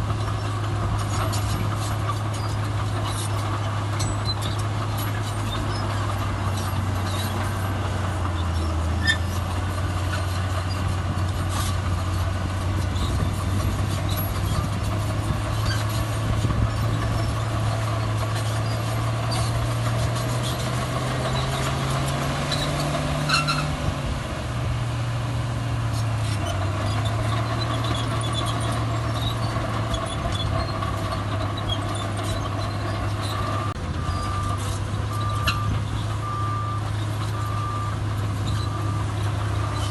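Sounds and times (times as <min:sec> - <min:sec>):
diesel machinery engine running: 0:00.0 - 0:39.9.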